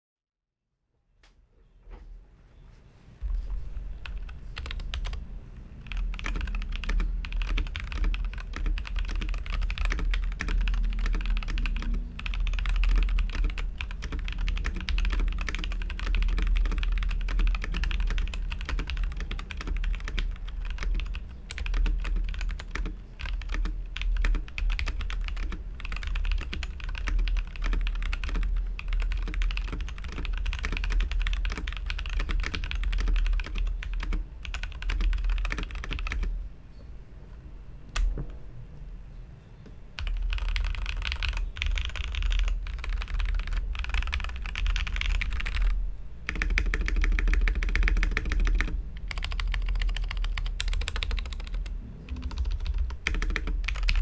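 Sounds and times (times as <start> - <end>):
steady low hum: 1.9 - 54.0
mechanical keyboard typing: 3.3 - 36.4, 40.0 - 54.0.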